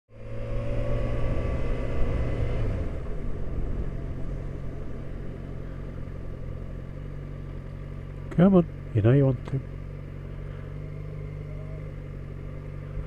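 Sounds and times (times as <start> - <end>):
motorcycle engine running: 0.1 - 13.0
wind and road noise: 0.1 - 13.0.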